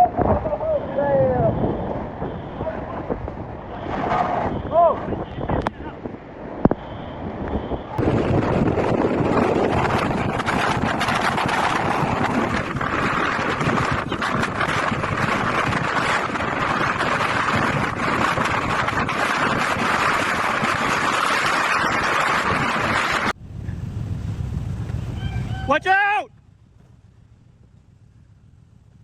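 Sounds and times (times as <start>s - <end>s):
strong wind blasting over microphone: 0.0s - 26.0s.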